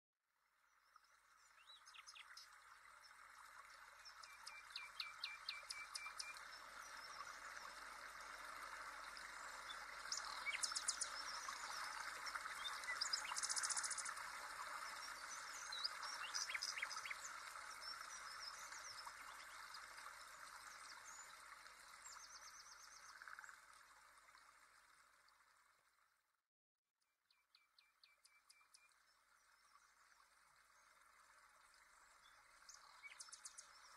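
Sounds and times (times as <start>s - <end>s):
running water: 0.6s - 26.2s, 28.8s - 33.9s.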